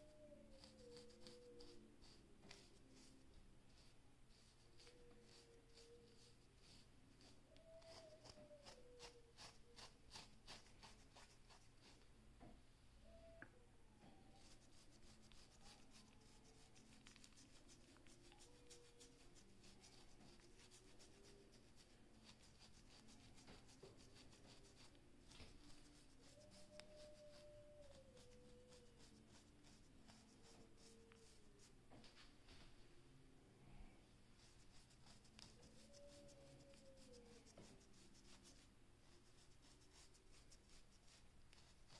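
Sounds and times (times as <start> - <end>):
comb scratching through hair: 0.5 - 12.1, 14.3 - 32.2, 34.4 - 41.9.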